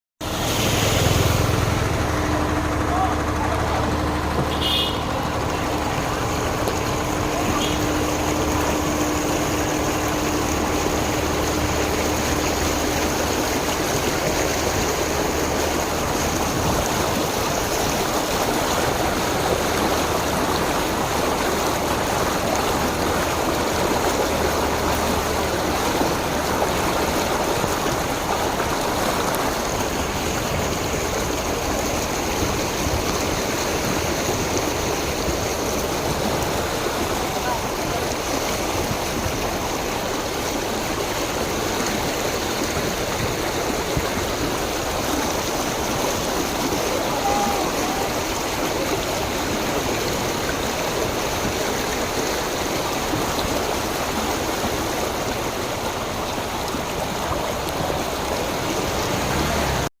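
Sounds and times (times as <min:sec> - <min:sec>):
heavy rain pouring: 0:00.2 - 0:59.9
water running on road: 0:00.2 - 0:59.9.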